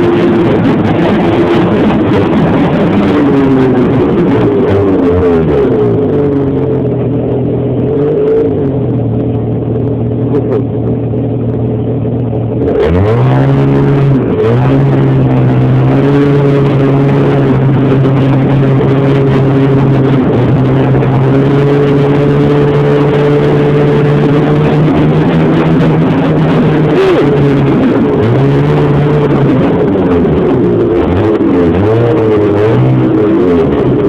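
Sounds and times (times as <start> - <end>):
rush of noise: 0.0 - 34.0
snowmobile engine accelerating: 0.0 - 34.0.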